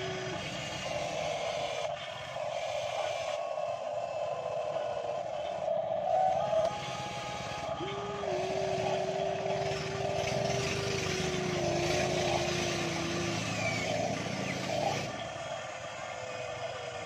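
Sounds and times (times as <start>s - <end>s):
electric motors whining: 0.0s - 17.0s
throbbing drone: 0.0s - 17.0s.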